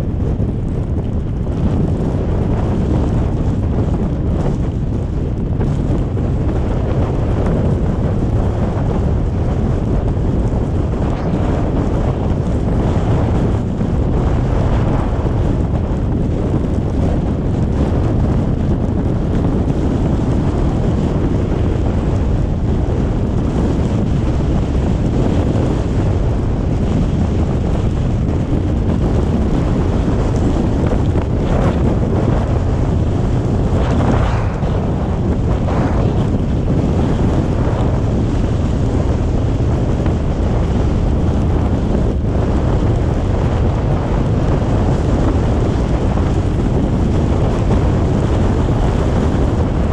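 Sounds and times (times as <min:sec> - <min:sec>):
road tyre and engine rumble: 0:00.0 - 0:49.9
wind noise: 0:00.0 - 0:49.9.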